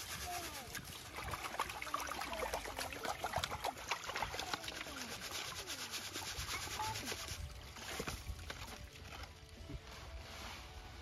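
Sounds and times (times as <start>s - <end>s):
wet gravel scraping in a sieve: 0.0s - 9.3s
water splashing and draining: 0.4s - 9.5s.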